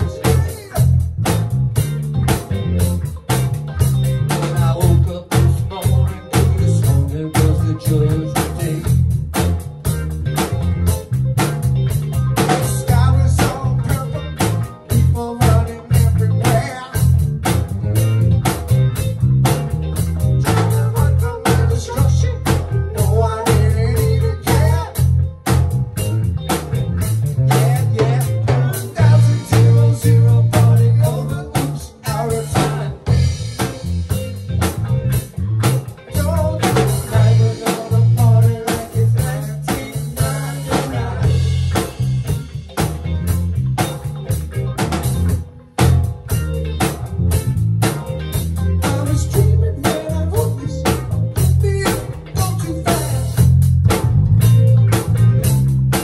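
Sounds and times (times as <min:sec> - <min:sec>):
drum kit beats: 0:00.0 - 0:56.0
electric bass guitar: 0:00.0 - 0:56.0
electric guitar: 0:00.0 - 0:56.0.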